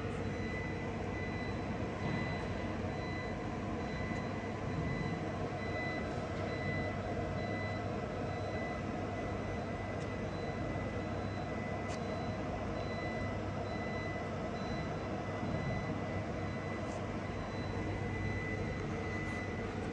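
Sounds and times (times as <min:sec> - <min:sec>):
workshop machinery drone: 0:00.0 - 0:19.9.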